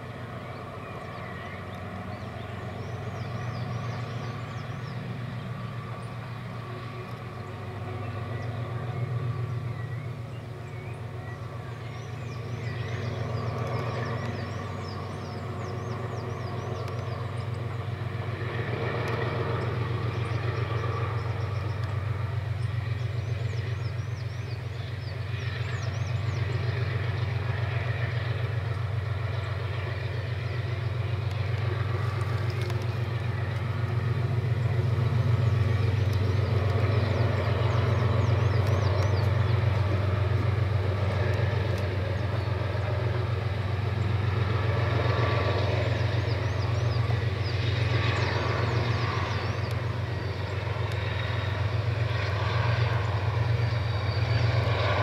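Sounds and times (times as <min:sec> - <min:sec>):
freight locomotive engine drone: 0:00.0 - 0:55.0.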